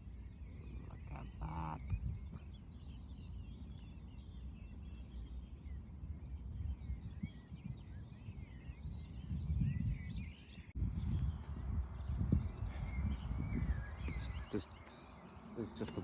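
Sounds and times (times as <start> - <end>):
chorus of bird calls: 0.0 - 16.0
wind rumbling on microphone: 0.0 - 16.0.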